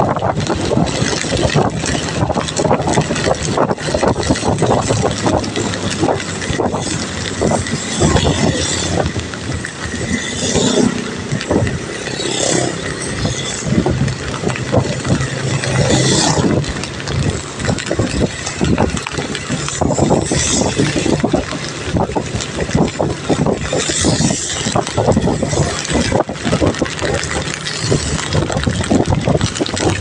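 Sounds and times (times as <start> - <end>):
heavy rain falling: 0.0 - 30.0
close drips and splashes: 0.3 - 30.0.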